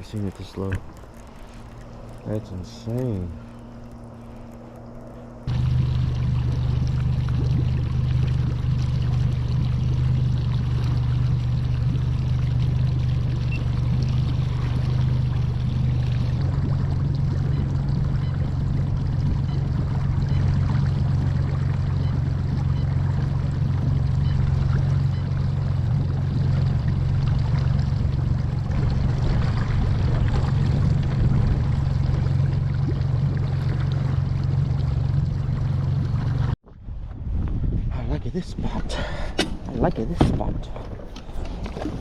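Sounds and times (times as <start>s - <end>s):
outboard motor running: 0.0s - 37.5s, 38.6s - 42.0s
water rushing along hull: 0.0s - 37.8s, 38.4s - 42.0s.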